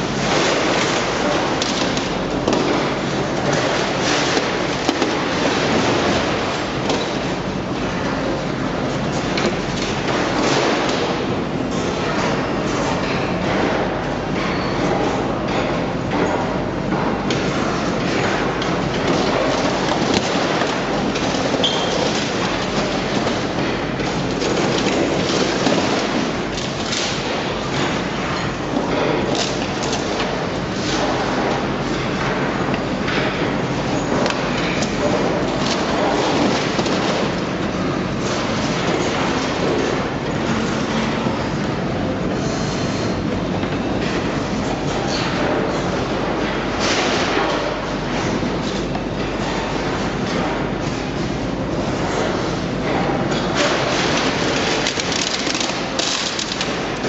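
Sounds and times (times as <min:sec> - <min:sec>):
heavy machinery clattering and grinding: 0:00.0 - 0:41.5, 0:52.0 - 0:57.0.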